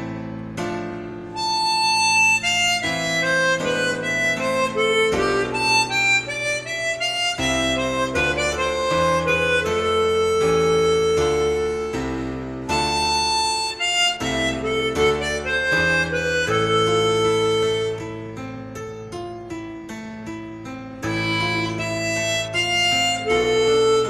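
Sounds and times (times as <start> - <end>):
piano accompaniment: 0.0 - 24.0
harmonica playing slow melody: 1.2 - 18.7, 21.0 - 24.0.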